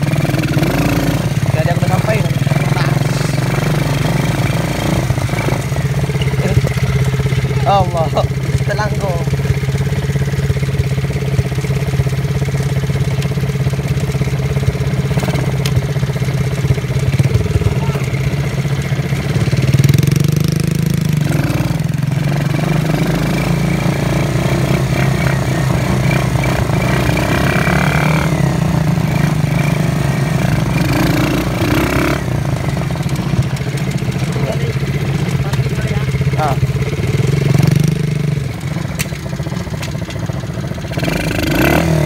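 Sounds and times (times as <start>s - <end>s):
quad bike engine running: 0.0s - 42.0s.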